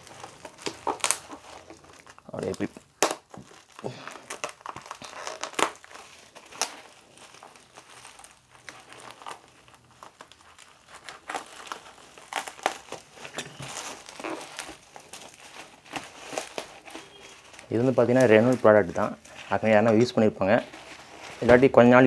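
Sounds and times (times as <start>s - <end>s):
bubble wrap crinkling and crackling: 0.0s - 22.0s.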